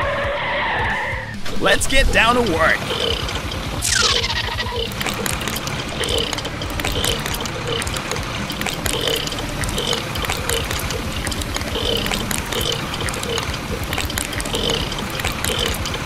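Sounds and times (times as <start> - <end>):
wet slurry pouring and splattering: 2.8 - 16.0.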